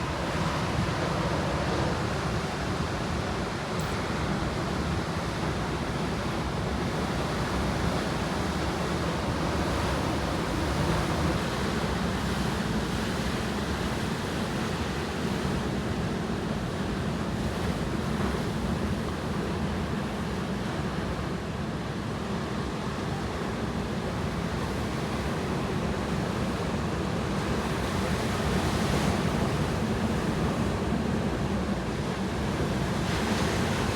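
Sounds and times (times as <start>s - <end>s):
sea waves breaking on shore: 0.0s - 33.9s.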